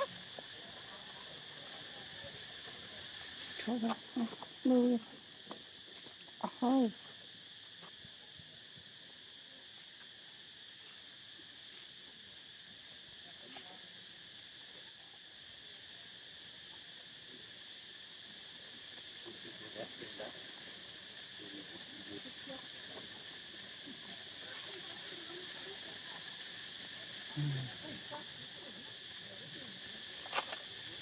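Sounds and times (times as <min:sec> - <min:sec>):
high insect chorus droning: 0:00.0 - 0:31.0.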